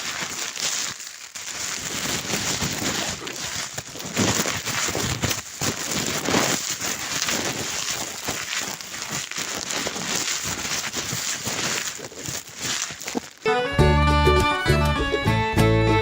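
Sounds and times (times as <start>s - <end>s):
dense crackling and rustling: 0.0s - 13.5s.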